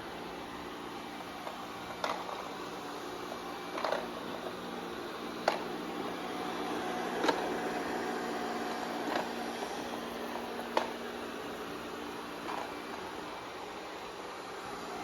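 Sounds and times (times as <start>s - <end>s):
robot vacuum whirring: 0.1s - 15.0s.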